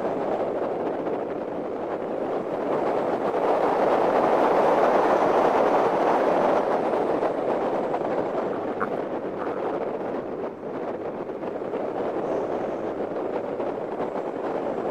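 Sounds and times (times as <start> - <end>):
road and wind noise: 0.0 - 14.9.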